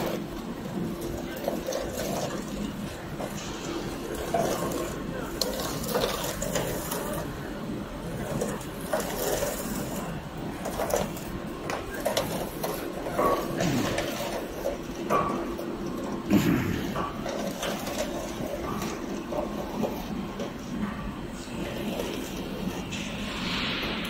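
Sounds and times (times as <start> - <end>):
conveyor machinery humming: 0.0 - 24.0.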